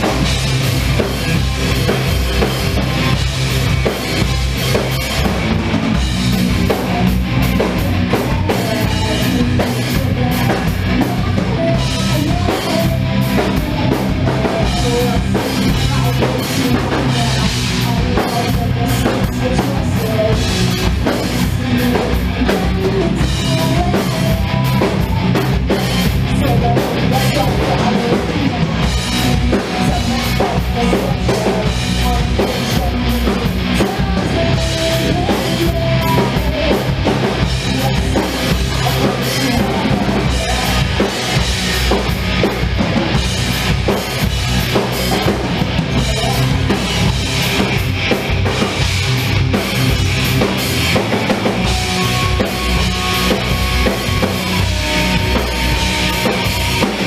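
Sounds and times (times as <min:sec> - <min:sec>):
drums pounding: 0:00.0 - 0:57.0
rock band playing live: 0:00.0 - 0:57.0.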